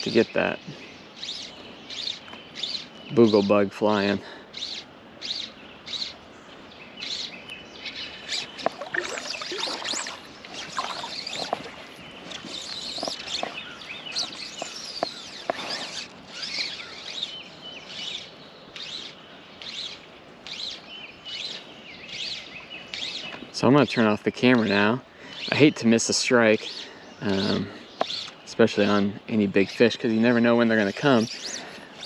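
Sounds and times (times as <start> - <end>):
songbirds chirping: 0.0 - 32.0.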